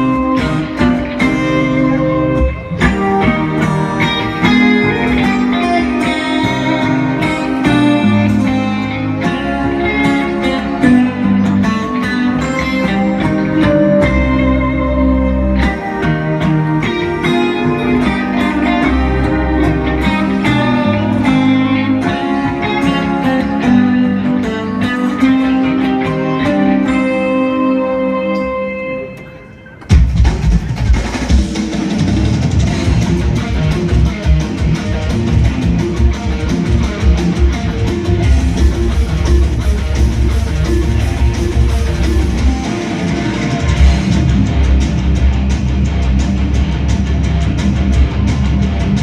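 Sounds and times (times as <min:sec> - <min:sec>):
instrumental guitar music: 0:00.0 - 0:49.0.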